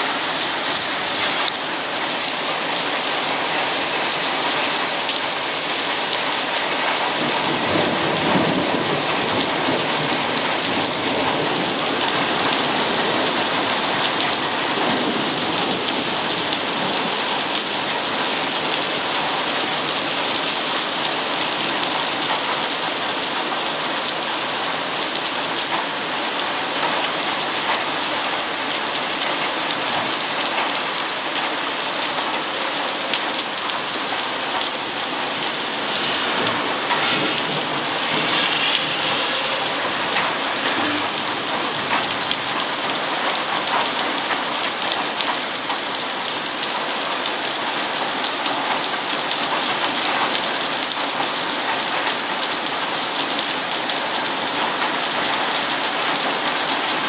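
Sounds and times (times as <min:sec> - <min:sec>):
heavy rain falling: 0:00.0 - 0:57.0
raindrops ticking close by: 0:00.0 - 0:57.0.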